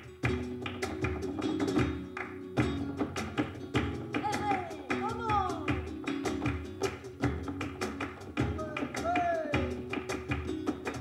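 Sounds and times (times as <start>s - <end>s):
dancer's rhythmic footwork strikes: 0.0s - 11.0s
spanish guitar playing: 0.0s - 11.0s.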